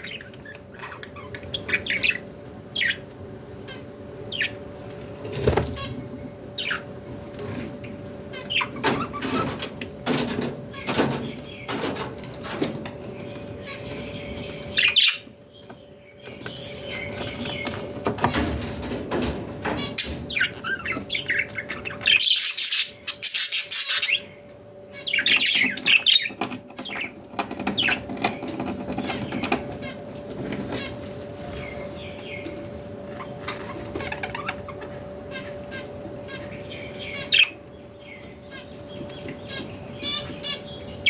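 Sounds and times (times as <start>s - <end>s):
budgerigars chirping and chattering: 0.0s - 41.0s.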